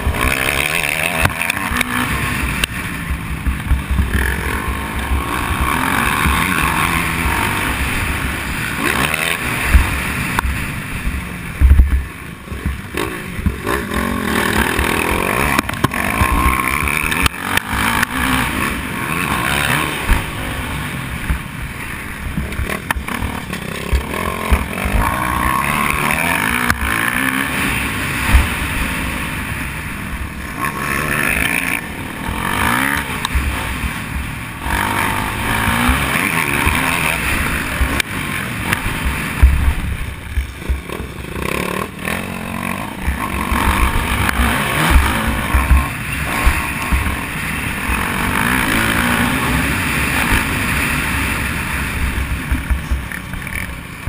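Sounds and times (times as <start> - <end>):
dirt bike engine revving: 0.0 - 54.0
wind rumbling on microphone: 0.0 - 54.0.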